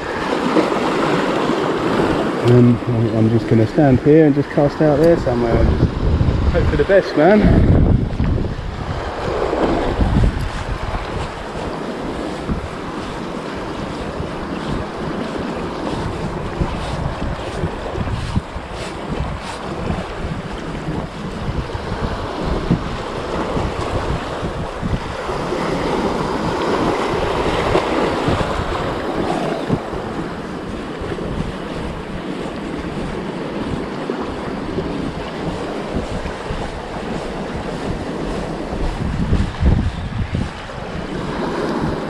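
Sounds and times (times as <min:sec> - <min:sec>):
waves washing against rocks: 0:00.0 - 0:42.0
wind buffeting microphone: 0:00.0 - 0:42.0.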